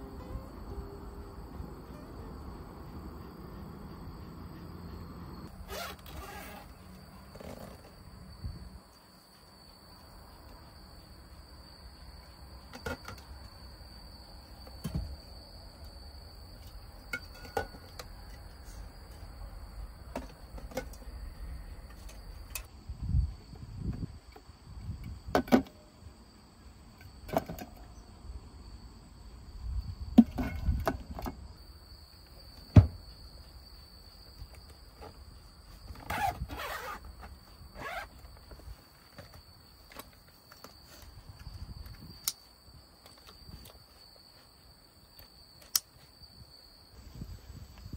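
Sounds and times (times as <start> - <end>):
high insect drone: 0.0 - 25.3, 25.9 - 47.9.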